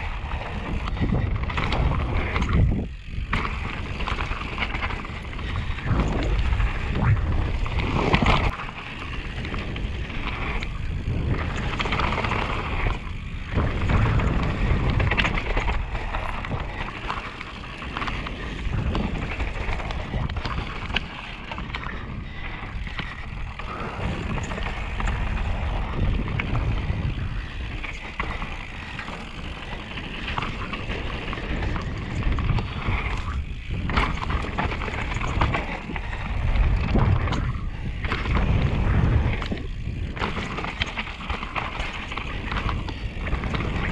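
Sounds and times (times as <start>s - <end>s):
bike knocking and rattling: 0.0s - 43.9s
tyres rolling over gravel: 0.0s - 43.9s
wind rushing over microphone: 0.0s - 43.9s.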